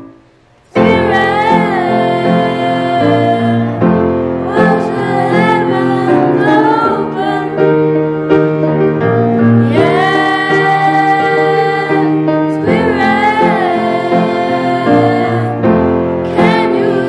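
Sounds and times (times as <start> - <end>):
grand piano playing: 0.0 - 17.0
girls singing: 0.7 - 8.0, 9.4 - 17.0.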